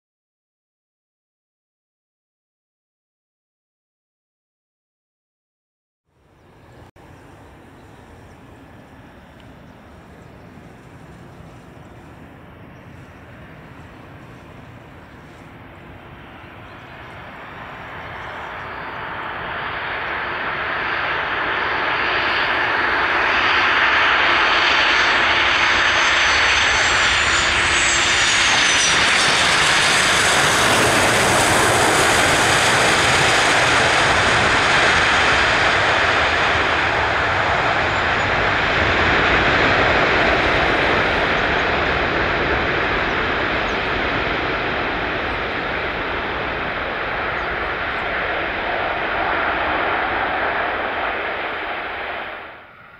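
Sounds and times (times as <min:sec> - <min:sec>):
jet engines roaring: 0:06.3 - 0:52.9
high jet whine falling in pitch: 0:07.0 - 0:52.9.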